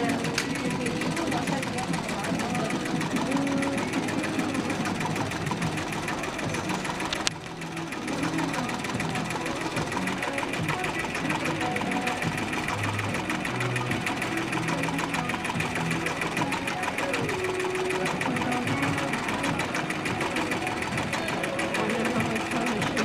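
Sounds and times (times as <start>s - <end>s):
embroidery machine clattering: 0.0s - 23.0s.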